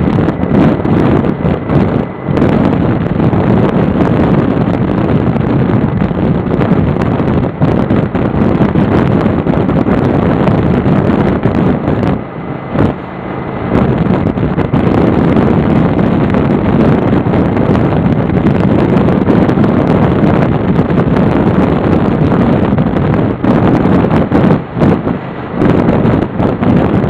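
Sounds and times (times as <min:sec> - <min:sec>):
vehicle noise: 0:00.0 - 0:27.0
wind rushing over microphone: 0:00.0 - 0:27.0.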